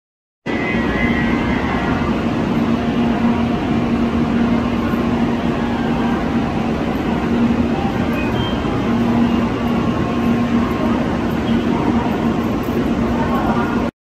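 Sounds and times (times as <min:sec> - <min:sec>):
high-speed train rumbling: 0:00.5 - 0:13.9.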